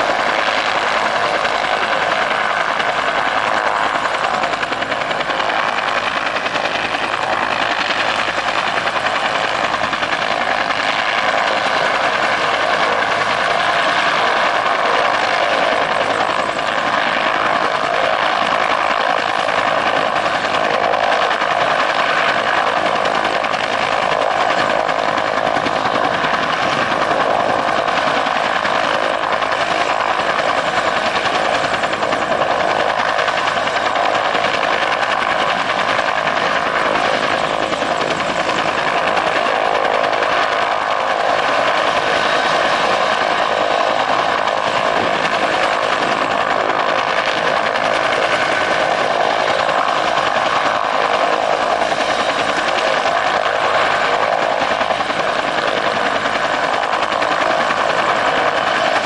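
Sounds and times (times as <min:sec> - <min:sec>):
helicopter rotor noise: 0:00.0 - 0:59.0
helicopter turbine whine: 0:00.0 - 0:59.0.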